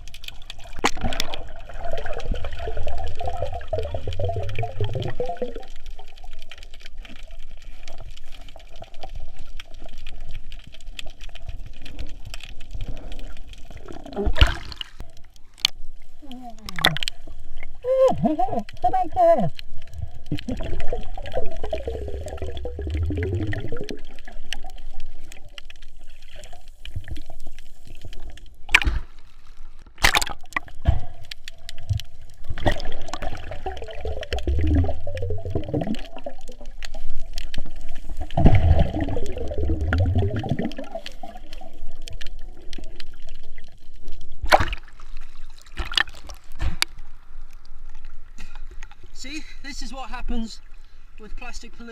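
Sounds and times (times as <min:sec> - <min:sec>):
underwater gurgling and sloshing: 0:00.0 - 0:51.9.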